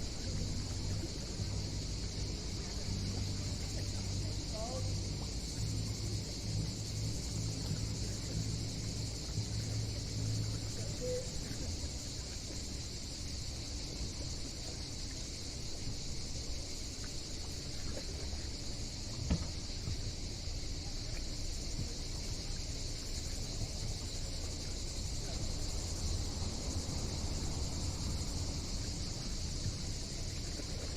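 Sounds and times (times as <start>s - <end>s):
high insect chorus: 0.0s - 30.9s
low engine hum: 0.0s - 30.9s.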